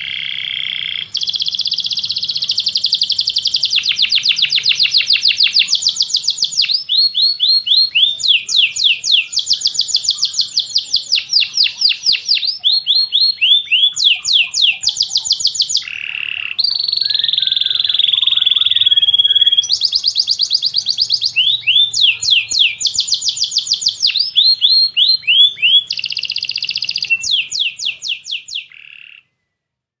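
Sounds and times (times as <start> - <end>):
canary singing: 0.0 - 29.5.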